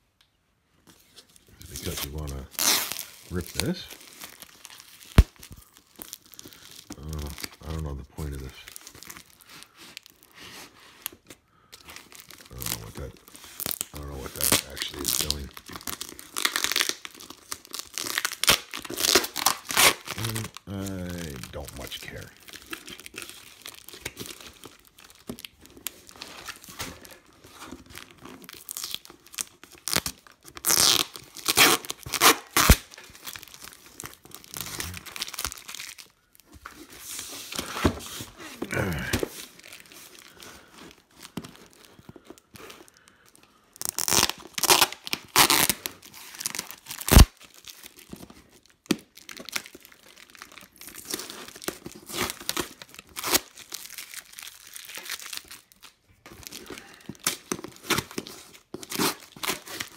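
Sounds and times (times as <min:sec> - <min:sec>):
plastic wrapping crinkling and tearing: 0:00.8 - 0:59.9.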